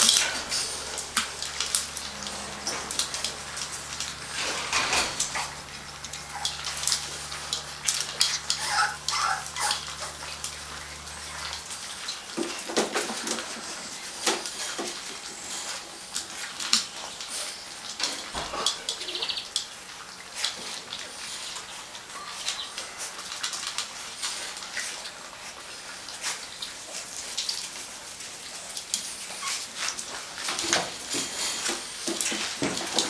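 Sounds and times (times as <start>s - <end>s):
puppies crunching kibble: 0.0s - 33.0s.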